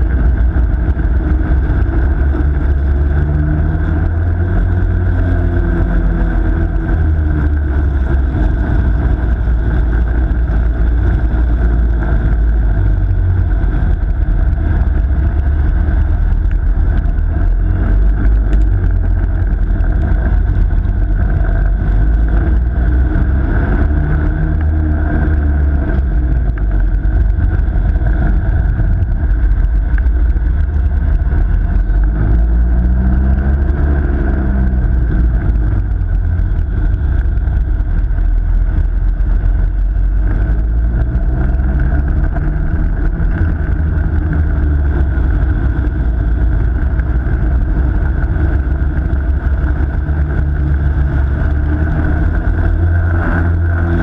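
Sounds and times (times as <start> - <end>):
kart engine rumbling: 0.0 - 54.0.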